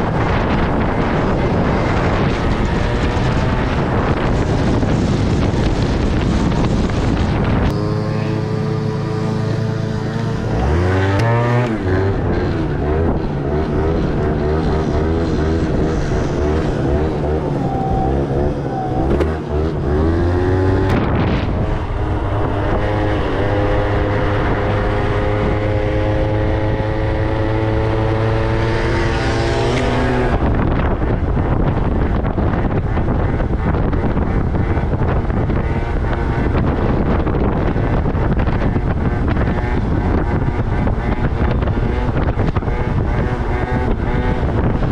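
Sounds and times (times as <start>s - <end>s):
moped engine revving: 0.0s - 44.9s
wind on microphone: 0.0s - 44.9s.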